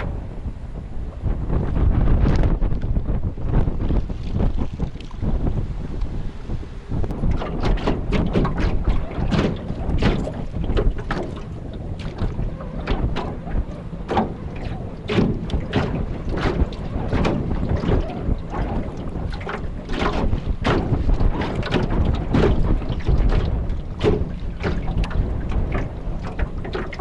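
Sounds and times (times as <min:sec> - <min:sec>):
waves slapping against boat: 0:00.0 - 0:27.0
wind buffeting microphone: 0:00.0 - 0:27.0.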